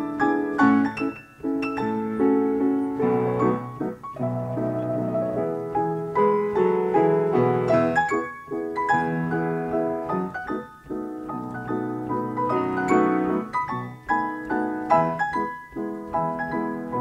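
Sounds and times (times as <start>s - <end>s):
player piano playing lively piece: 0.0s - 17.0s.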